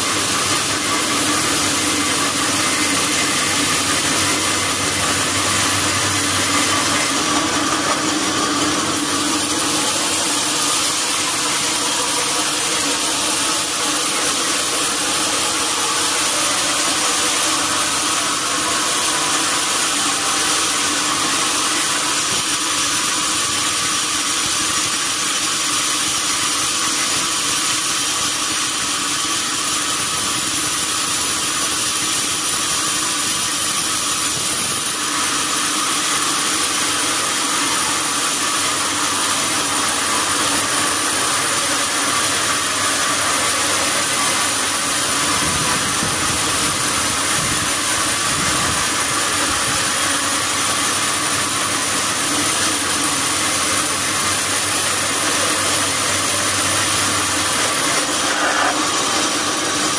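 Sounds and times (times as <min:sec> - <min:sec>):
high mechanical whine: 0:00.0 - 0:59.9
sawmill machinery running: 0:00.0 - 0:59.9.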